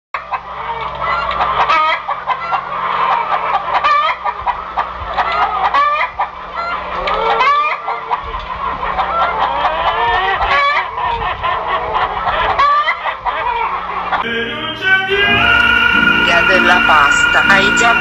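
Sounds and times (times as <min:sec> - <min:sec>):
chickens clucking and calling: 0:00.2 - 0:18.0.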